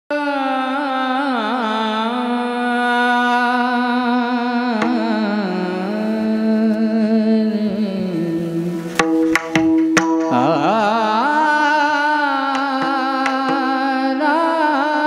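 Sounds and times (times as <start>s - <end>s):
man singing long high note: 0.1s - 9.0s, 10.2s - 15.0s.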